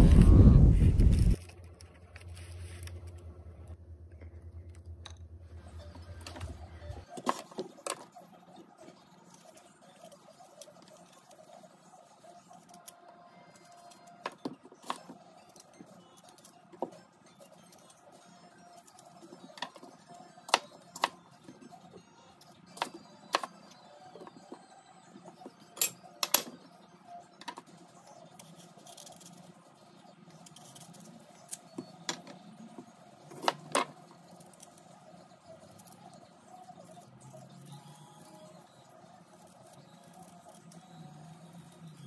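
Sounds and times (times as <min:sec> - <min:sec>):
faint background music: 0:00.0 - 0:42.0.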